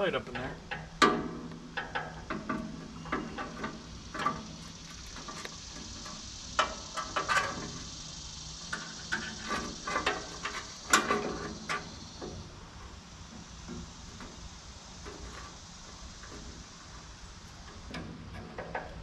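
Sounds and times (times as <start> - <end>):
scrapes and knocks on steel frame: 0.3 - 19.0.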